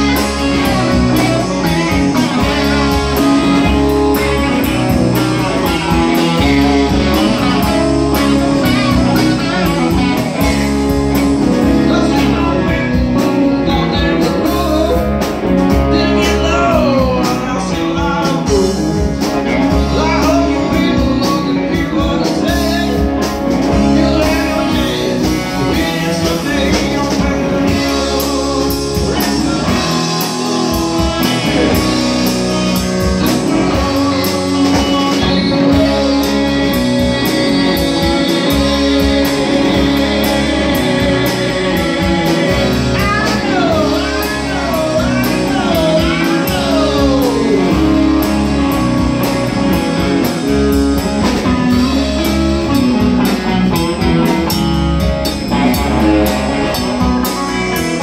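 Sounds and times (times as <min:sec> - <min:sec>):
bass guitar: 0:00.0 - 0:58.0
blues-rock band playing: 0:00.0 - 0:58.0
drums: 0:00.0 - 0:58.0
electric guitars: 0:00.0 - 0:58.0.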